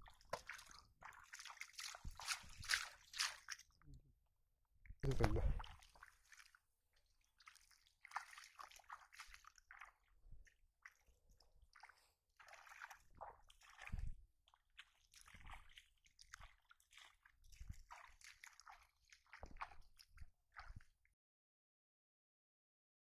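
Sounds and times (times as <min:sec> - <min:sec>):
feet wading through shallow water: 0:00.0 - 0:03.8, 0:05.2 - 0:21.0.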